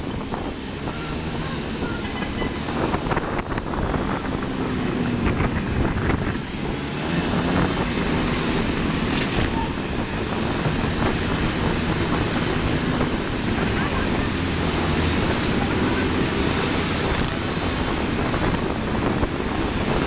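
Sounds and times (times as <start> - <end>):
motorcycle engine running: 0.0 - 20.0
road and traffic noise: 0.0 - 20.0
wind buffeting microphone: 0.0 - 20.0.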